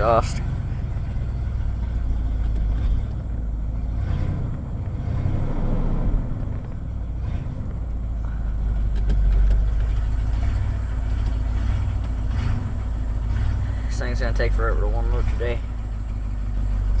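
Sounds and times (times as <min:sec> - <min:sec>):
truck engine idling: 0:00.0 - 0:05.2, 0:06.2 - 0:17.0.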